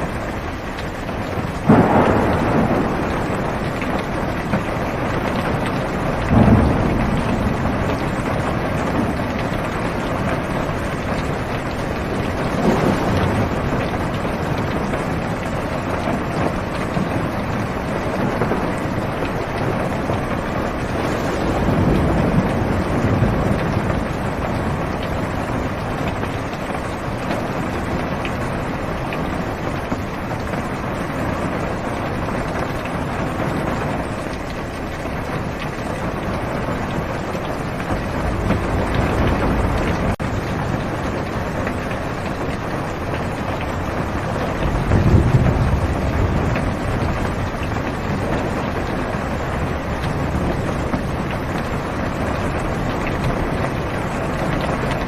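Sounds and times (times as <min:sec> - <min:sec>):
heavy rain on car roof: 0:00.0 - 0:55.0
thunder rumbling: 0:00.0 - 0:55.0.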